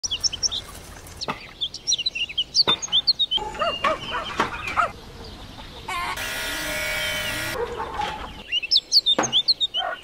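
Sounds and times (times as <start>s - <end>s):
small birds chirping: 0.0s - 6.2s, 7.2s - 10.0s.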